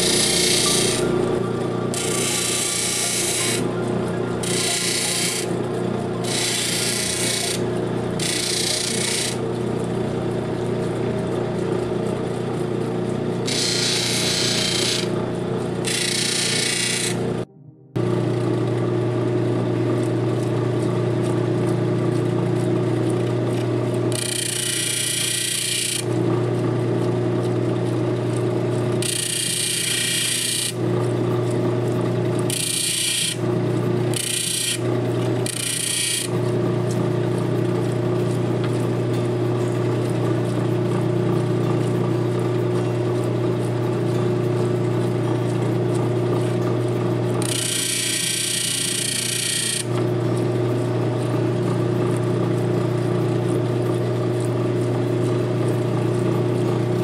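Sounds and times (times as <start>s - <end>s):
stone grinding on spinning lap: 0.0s - 17.4s, 23.0s - 26.4s, 28.6s - 57.0s
machine motor humming: 0.0s - 57.0s.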